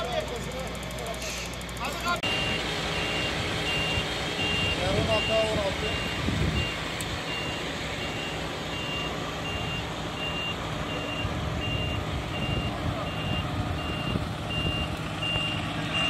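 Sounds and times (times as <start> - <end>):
diesel engine running: 0.0 - 16.0
truck reversing alarm beeping: 0.0 - 16.0.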